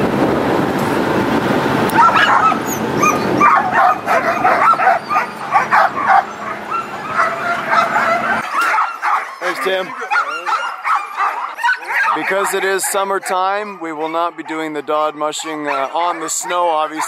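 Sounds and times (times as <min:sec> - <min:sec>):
dogs barking and yipping: 0:01.9 - 0:17.0
dogs whining: 0:01.9 - 0:17.0.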